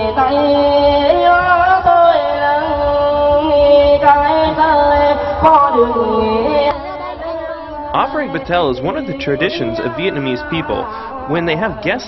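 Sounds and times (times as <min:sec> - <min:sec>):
person singing folk song: 0:00.0 - 0:12.0.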